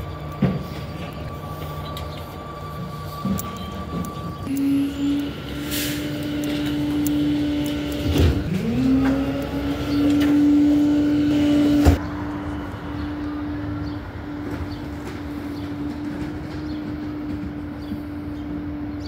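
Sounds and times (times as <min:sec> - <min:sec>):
garbage truck hydraulic whine: 0:00.0 - 0:19.0.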